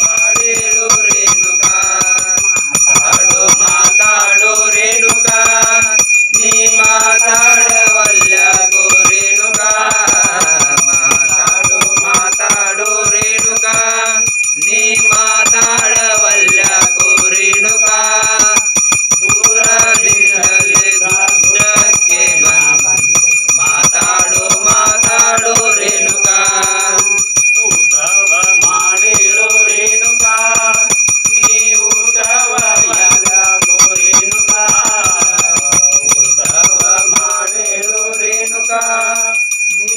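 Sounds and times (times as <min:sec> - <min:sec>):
devotional song: 0:00.0 - 0:39.9
hand bell ringing rapidly: 0:00.0 - 0:39.9.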